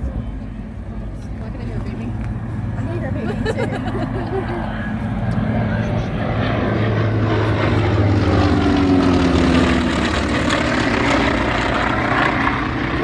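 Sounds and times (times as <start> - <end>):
aircraft radial engine droning: 0.0 - 13.0.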